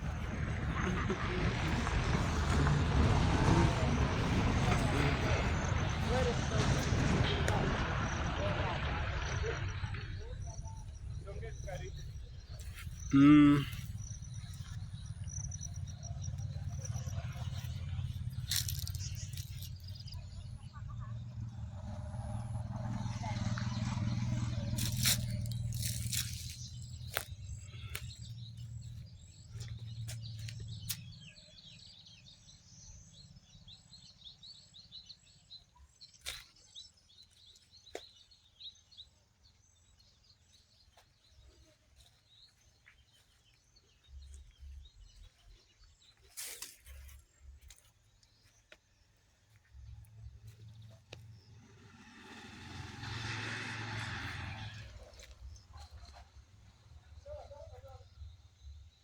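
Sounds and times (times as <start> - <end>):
birds chirping faintly: 8.1 - 59.0.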